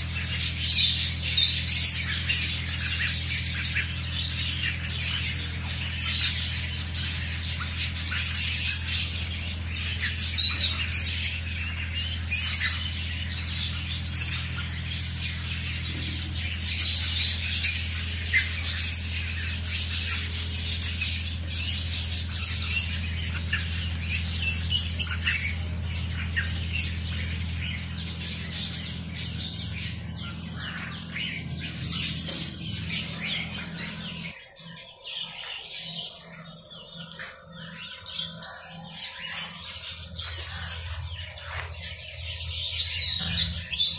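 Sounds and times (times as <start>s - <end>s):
ducklings peeping and squawking: 0.0s - 43.9s
steady low hum: 0.0s - 43.9s.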